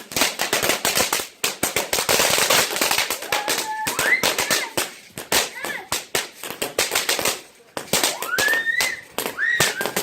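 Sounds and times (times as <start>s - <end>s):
fireworks crackling and popping: 0.0s - 10.0s
fireworks hissing: 0.0s - 10.0s.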